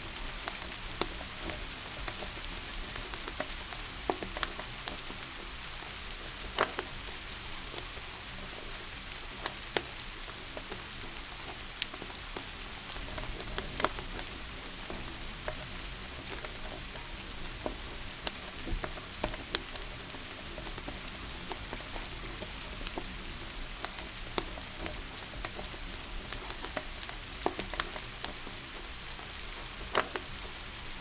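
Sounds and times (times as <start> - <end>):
steady rain hiss: 0.0 - 31.0
wood fire crackling and popping: 0.0 - 31.0.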